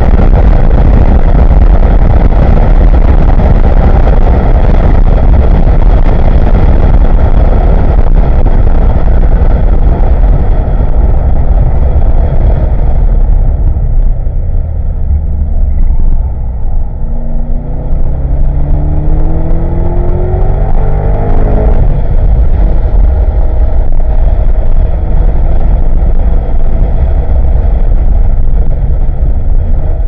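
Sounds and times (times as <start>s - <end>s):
car engine at full throttle: 0.0s - 30.0s.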